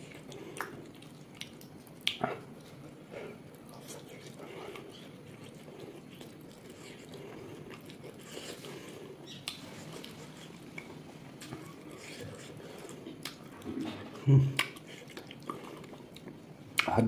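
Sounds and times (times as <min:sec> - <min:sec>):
person chewing: 0:00.0 - 0:16.9.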